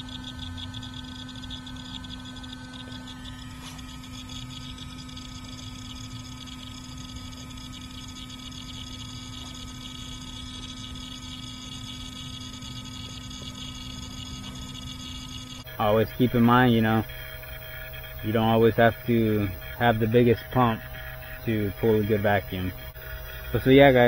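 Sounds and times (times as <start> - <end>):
vacuum pump humming: 0.0 - 24.0.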